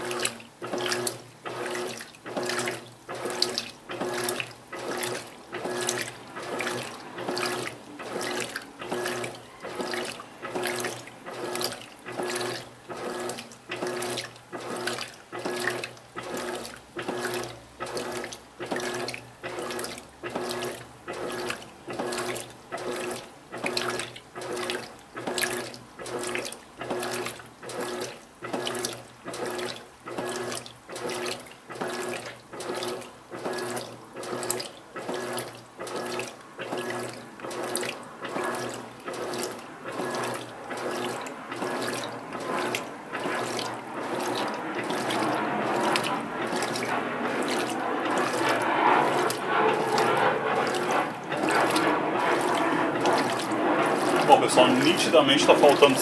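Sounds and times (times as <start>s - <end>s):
low motor hum: 0.0s - 56.0s
washing machine agitator swishing water: 0.0s - 56.0s.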